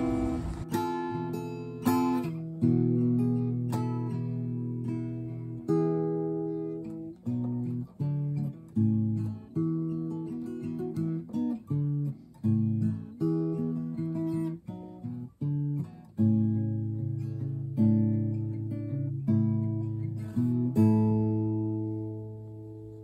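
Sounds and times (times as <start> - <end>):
acoustic guitar strummed chords: 0.0 - 23.0.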